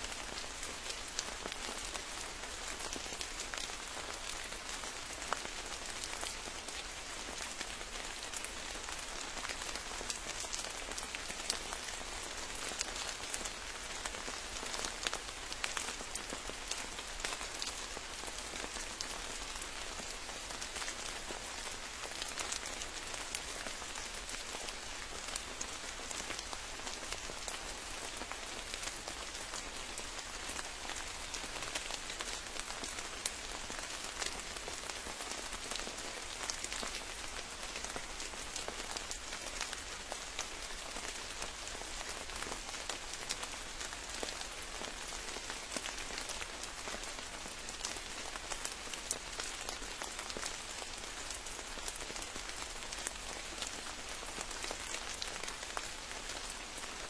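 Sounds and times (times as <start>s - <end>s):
steady rain pattering: 0.0s - 57.0s.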